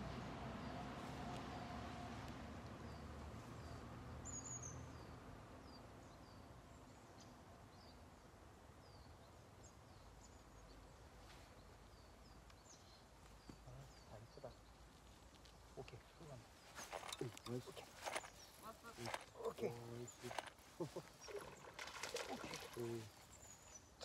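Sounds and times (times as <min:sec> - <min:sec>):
faint outdoor ambience: 0:00.0 - 0:24.0.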